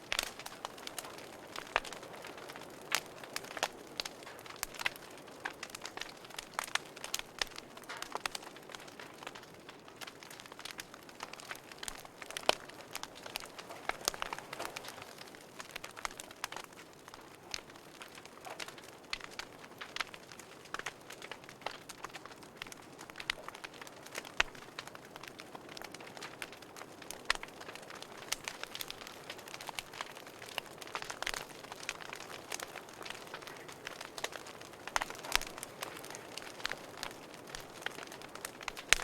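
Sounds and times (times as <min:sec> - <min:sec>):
soft steady hiss: 0:00.0 - 0:39.0
wood fire crackling: 0:00.0 - 0:39.0.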